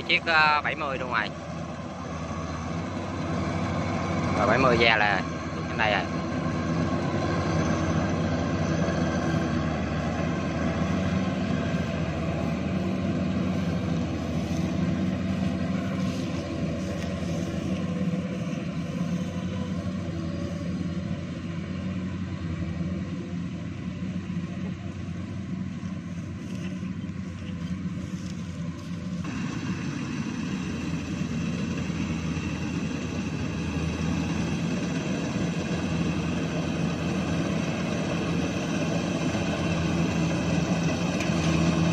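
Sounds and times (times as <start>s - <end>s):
combine harvester engine drone: 0.0s - 41.9s.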